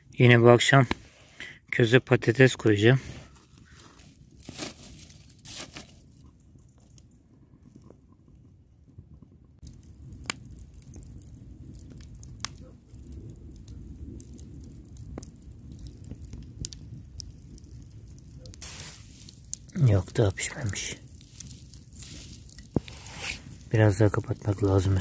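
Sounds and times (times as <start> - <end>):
campfire crackling and popping: 0.0 - 1.8, 2.4 - 25.0.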